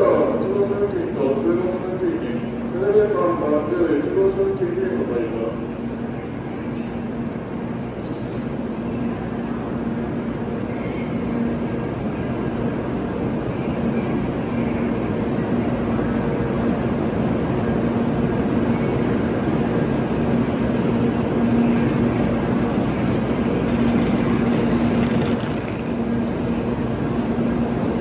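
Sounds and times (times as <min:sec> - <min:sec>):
train equipment humming: 0:00.0 - 0:28.0.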